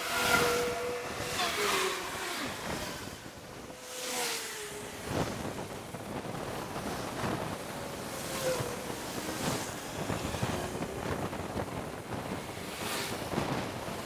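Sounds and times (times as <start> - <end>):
road traffic passing: 0.0 - 14.0
wind rushing over microphone: 0.0 - 14.0.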